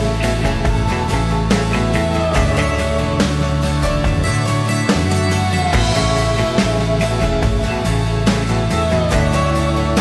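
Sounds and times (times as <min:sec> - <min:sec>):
instrumental song music: 0:00.0 - 0:10.0.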